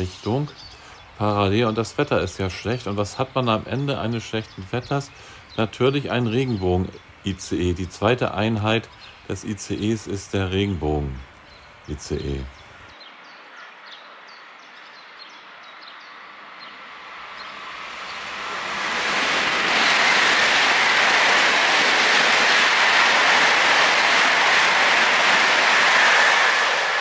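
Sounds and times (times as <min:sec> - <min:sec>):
high-speed train passing: 0:00.0 - 0:27.0.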